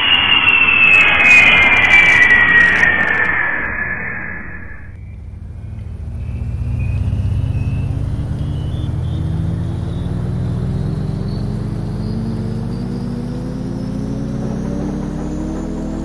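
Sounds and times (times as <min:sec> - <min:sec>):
engine rumble rising in pitch: 0:00.0 - 0:16.0
faint high whine: 0:00.0 - 0:16.0.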